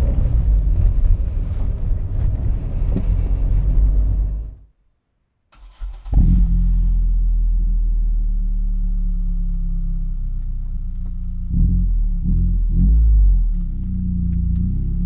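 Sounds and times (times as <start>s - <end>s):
car exhaust idling: 0.0s - 4.6s, 6.2s - 14.7s.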